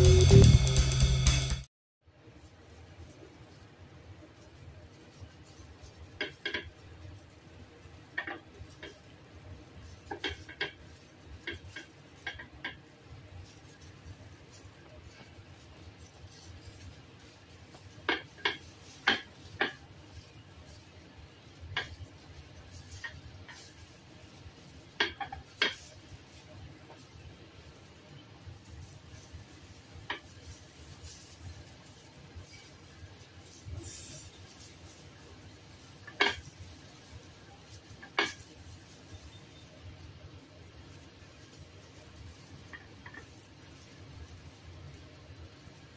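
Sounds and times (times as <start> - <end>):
faint rustle: 2.3 - 45.9.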